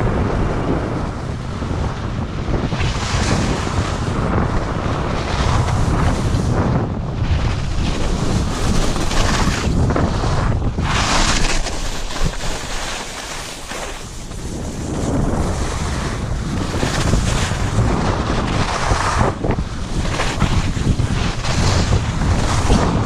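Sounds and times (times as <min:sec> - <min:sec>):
wind buffeting microphone: 0:00.0 - 0:23.0
skis scraping packed snow: 0:02.7 - 0:23.0.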